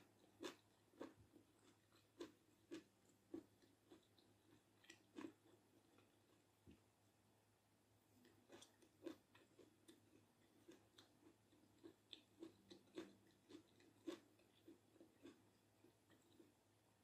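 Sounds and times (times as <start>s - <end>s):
wet chewing mouth clicks: 0.0s - 6.4s, 8.2s - 16.6s.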